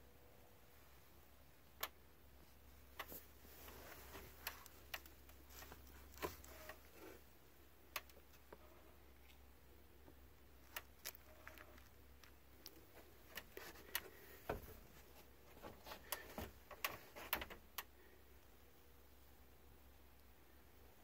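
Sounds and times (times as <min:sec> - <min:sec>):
low steady hum: 0:00.0 - 0:21.0
faint irregular ticks and clicks: 0:01.6 - 0:19.0.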